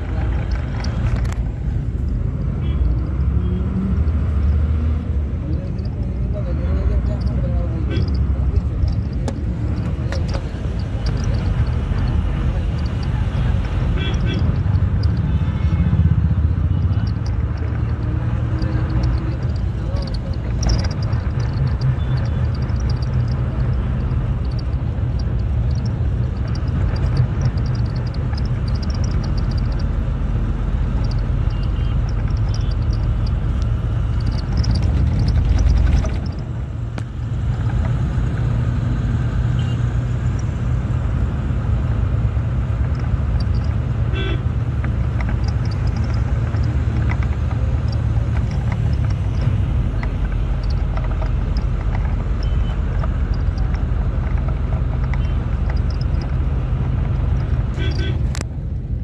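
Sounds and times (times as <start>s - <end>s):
road and wind noise: 0.0s - 59.0s
vehicle engine drone: 0.0s - 59.0s.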